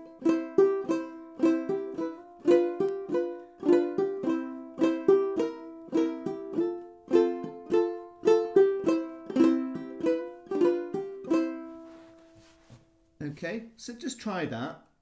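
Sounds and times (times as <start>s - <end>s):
banjo ukulele strumming: 0.0s - 12.6s.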